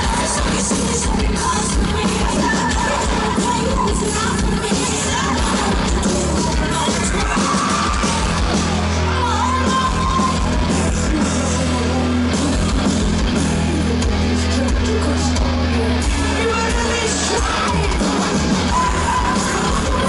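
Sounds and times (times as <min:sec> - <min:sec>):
heavy metal band playing: 0:00.0 - 0:20.0
person singing: 0:00.0 - 0:20.0.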